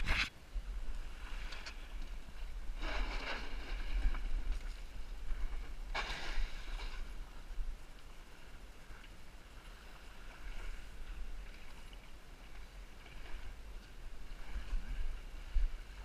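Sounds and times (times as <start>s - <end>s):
boat hull rushing through water: 0.0s - 16.0s
wind rumble on microphone: 0.0s - 16.0s.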